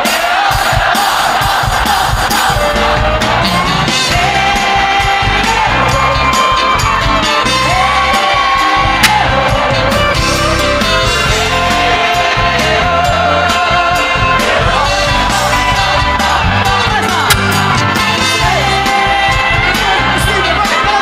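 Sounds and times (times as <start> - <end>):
crowd shouting and cheering: 0.0 - 21.0
live band playing: 0.0 - 21.0
people singing: 0.0 - 21.0.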